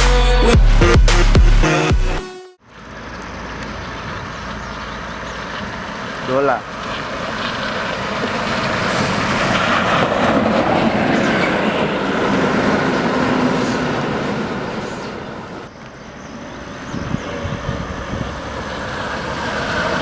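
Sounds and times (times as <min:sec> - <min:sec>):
bus passing close by: 0:02.6 - 0:20.0
traffic noise: 0:02.6 - 0:20.0.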